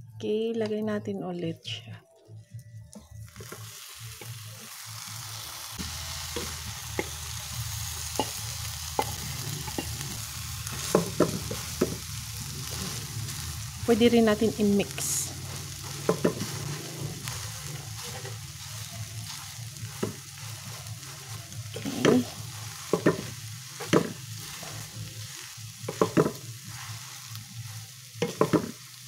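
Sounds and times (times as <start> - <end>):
food sizzling in a pan: 3.1 - 29.0
spatula stirring food: 3.4 - 13.8, 14.9 - 29.0.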